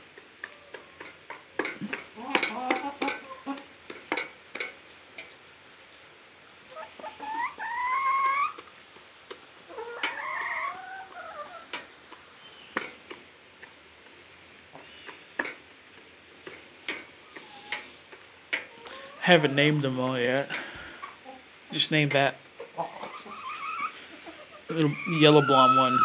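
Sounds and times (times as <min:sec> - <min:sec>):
chickens calling: 0:00.1 - 0:26.0.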